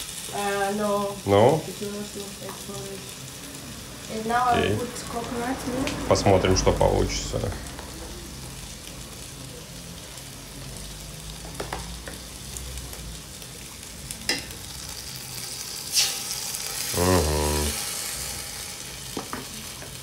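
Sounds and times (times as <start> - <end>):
food sizzling in a pot: 0.0 - 20.0.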